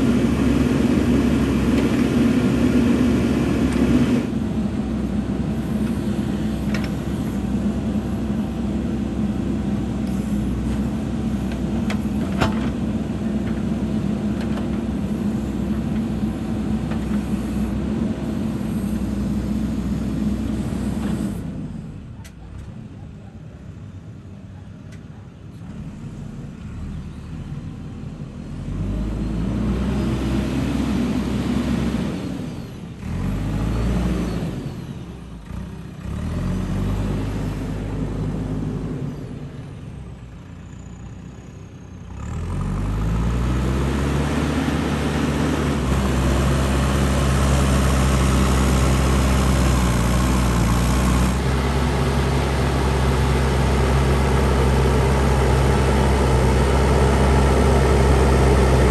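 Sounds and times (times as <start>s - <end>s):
diesel engine revving: 0.0s - 22.2s, 25.7s - 58.9s.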